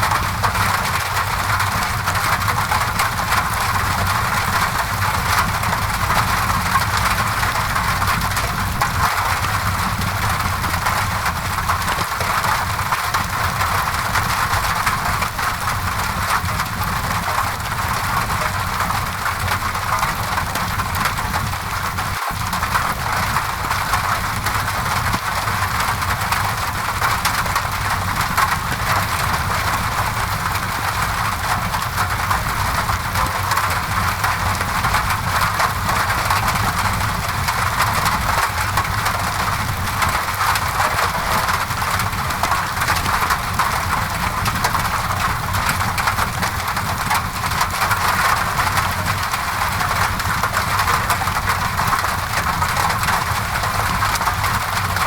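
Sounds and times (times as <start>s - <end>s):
rain against a window: 0.0s - 55.0s.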